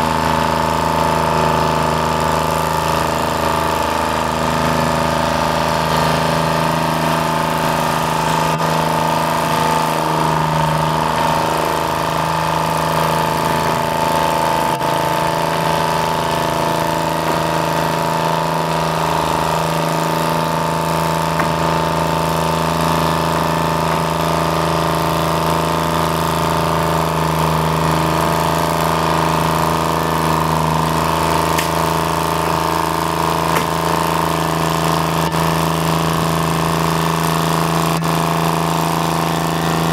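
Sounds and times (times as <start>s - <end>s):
engine droning with whine: 0.0s - 39.9s.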